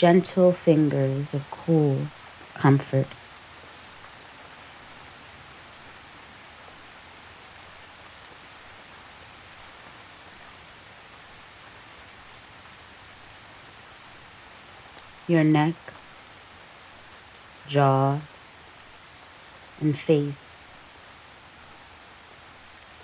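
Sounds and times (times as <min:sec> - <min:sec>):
gentle rain pattering: 0:00.0 - 0:23.0.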